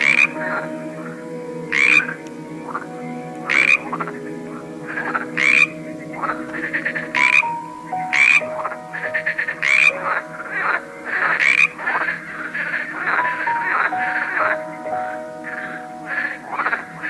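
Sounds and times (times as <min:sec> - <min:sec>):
loud frog call: 0:00.0 - 0:00.7, 0:01.7 - 0:02.8, 0:03.4 - 0:04.1, 0:04.9 - 0:17.0
frogs croaking: 0:00.0 - 0:17.0.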